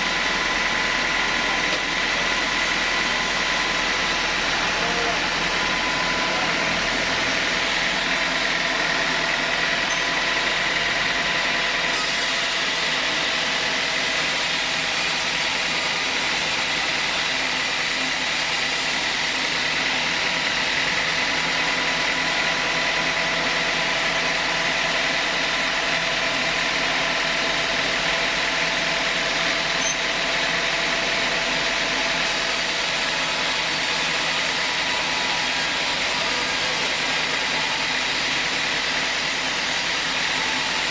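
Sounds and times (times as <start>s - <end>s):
saw whining: 0.0s - 40.9s.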